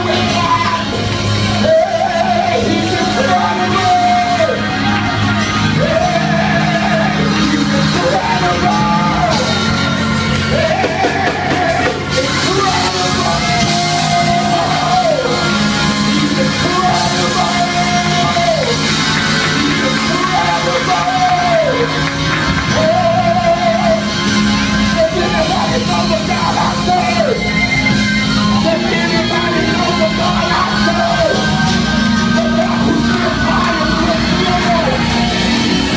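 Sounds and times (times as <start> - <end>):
loud band music: 0.0 - 35.9.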